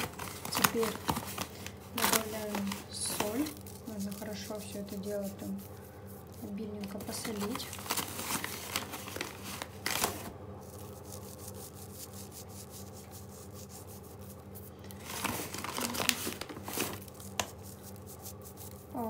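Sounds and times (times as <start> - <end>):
salt sprinkling rustle: 0.0 - 19.0
steady low hum: 0.0 - 19.0.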